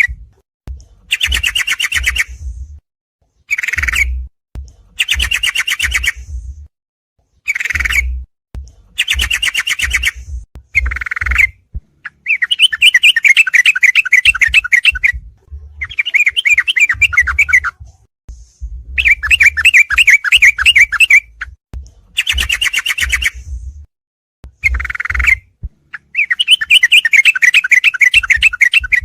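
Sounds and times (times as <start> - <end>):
bulbul chattering song: 1.0 - 2.5, 3.5 - 6.4, 7.5 - 17.9, 18.9 - 23.6, 24.5 - 29.0.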